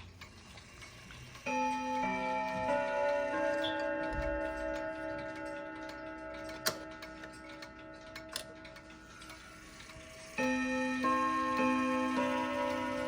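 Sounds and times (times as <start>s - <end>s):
wall clock chime melody: 0.3s - 13.0s.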